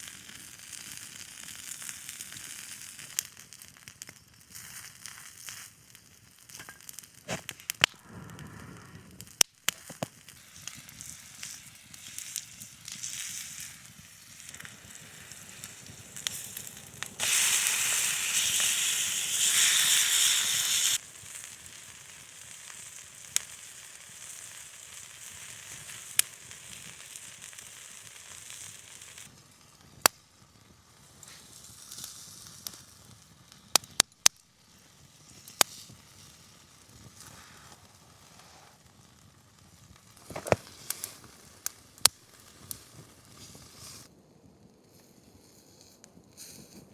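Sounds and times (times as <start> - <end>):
fire pops and crackles: 0.0 - 46.9
food sizzling over campfire: 0.0 - 46.9.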